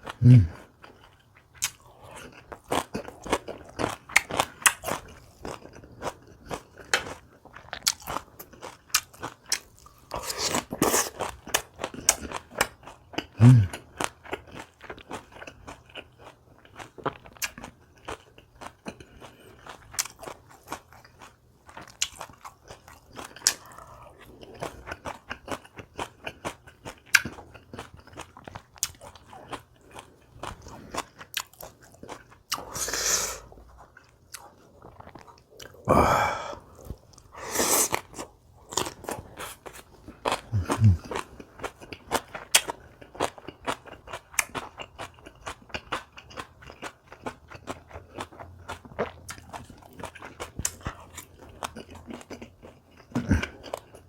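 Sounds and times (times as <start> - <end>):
person crunching and chewing: 0.0 - 54.0.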